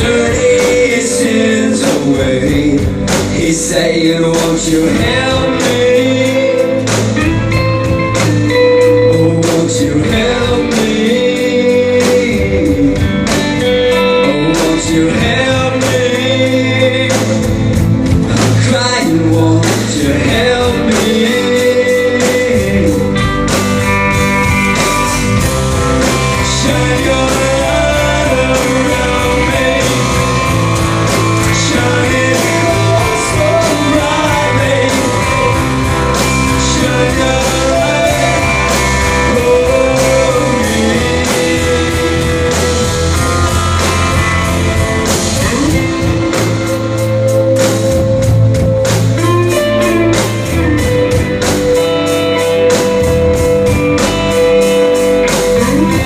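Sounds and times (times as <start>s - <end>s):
bass guitar: 0.0s - 56.0s
rock song guitar-led instrumental: 0.0s - 56.0s
steady drumbeat: 0.0s - 56.0s.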